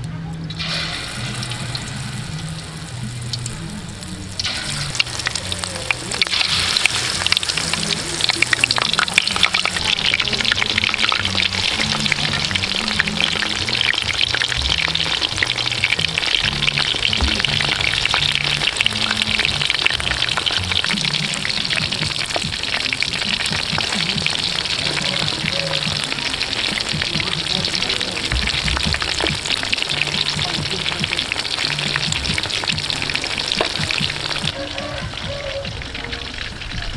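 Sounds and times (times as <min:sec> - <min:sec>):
background music: 0:00.0 - 0:36.9
food deep-frying in oil: 0:00.0 - 0:36.9.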